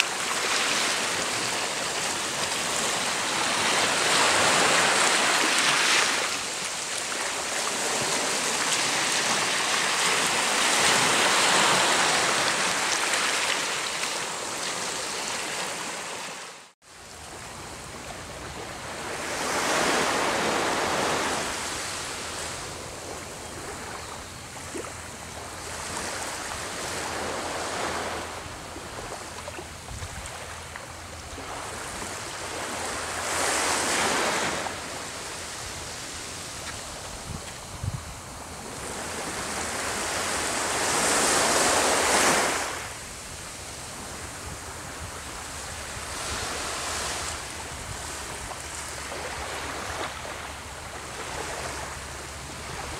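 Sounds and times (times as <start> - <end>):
small waves washing onto beach: 0.0 - 52.9.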